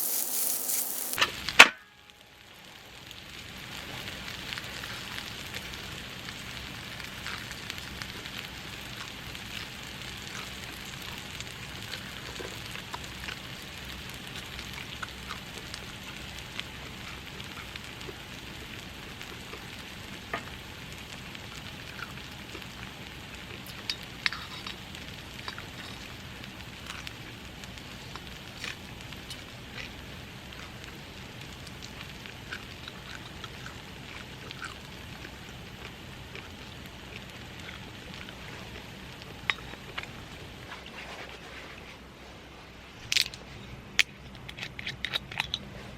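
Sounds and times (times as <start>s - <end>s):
food sizzling as it fries: 0.0s - 40.8s.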